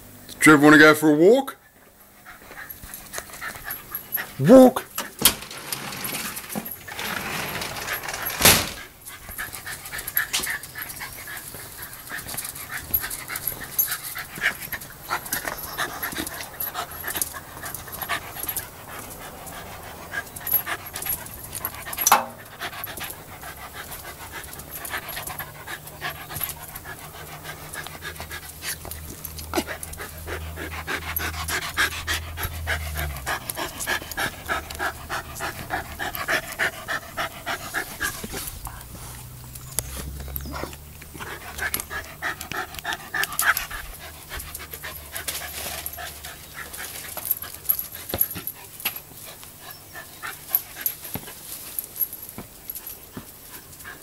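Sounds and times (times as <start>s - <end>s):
dog panting: 2.0s - 5.2s, 7.7s - 54.0s.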